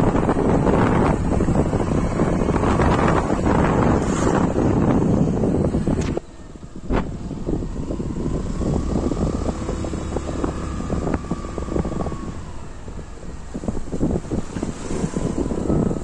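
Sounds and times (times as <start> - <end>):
motorbike engine droning: 0.0 - 16.0
wind buffeting microphone: 0.0 - 16.0.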